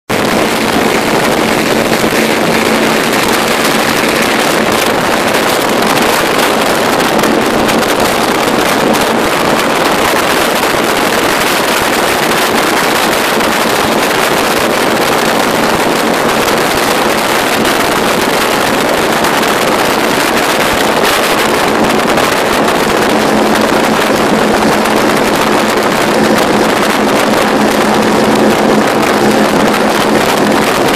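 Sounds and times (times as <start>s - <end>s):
powerboat engines droning: 0.1s - 30.9s
rushing water and spray: 0.1s - 30.9s
wind buffeting microphone: 0.1s - 30.9s.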